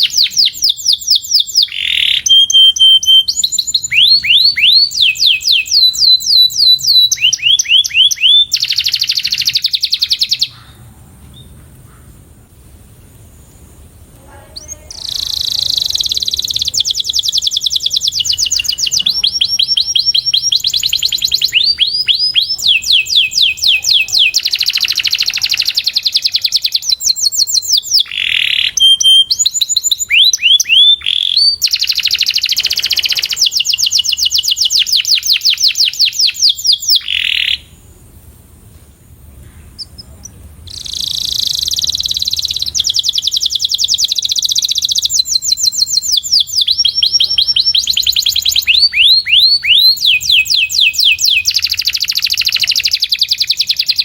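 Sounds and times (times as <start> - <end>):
canary singing trills: 0.0 - 12.2, 13.4 - 37.9, 39.4 - 54.0.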